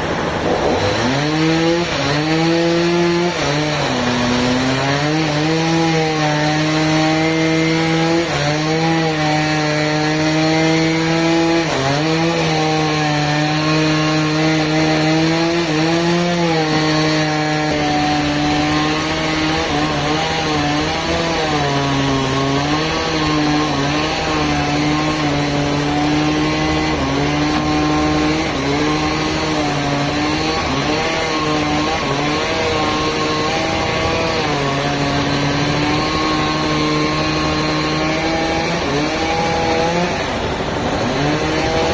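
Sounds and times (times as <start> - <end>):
engine saw cutting wood: 0.0 - 41.9.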